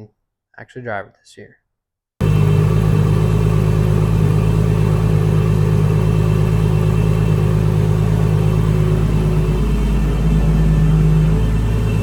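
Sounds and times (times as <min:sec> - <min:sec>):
car engine running steadily: 0:02.2 - 0:12.0.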